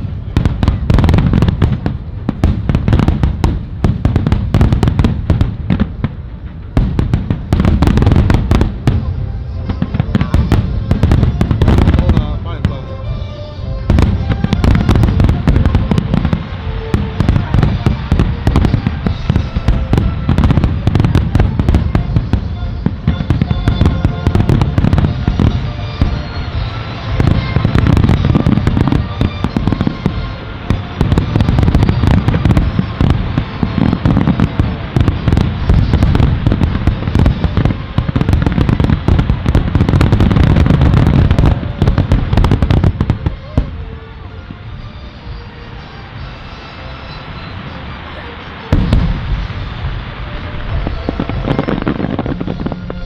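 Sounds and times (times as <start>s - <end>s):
fireworks booming and crackling: 0.0s - 53.0s.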